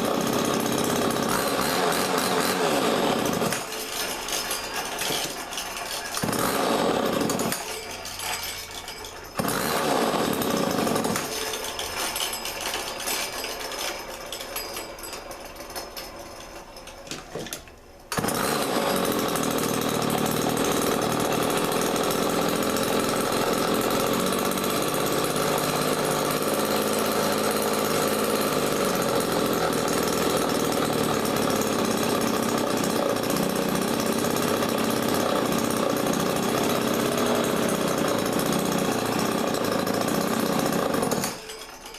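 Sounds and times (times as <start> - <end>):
chainsaw engine running: 0.0 - 14.2, 18.1 - 41.8.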